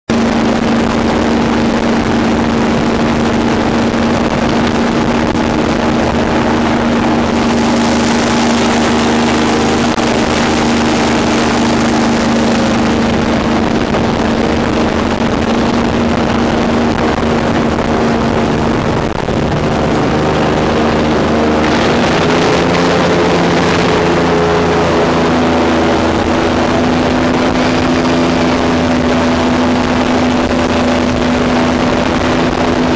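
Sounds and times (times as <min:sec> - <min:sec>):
airboat engine and propeller: 0:00.0 - 0:32.9.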